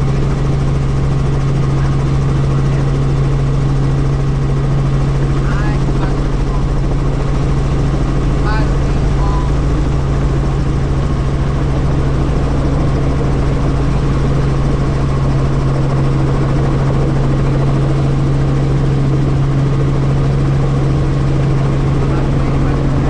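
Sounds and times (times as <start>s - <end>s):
helicopter engine and rotors drone: 0.0s - 23.0s.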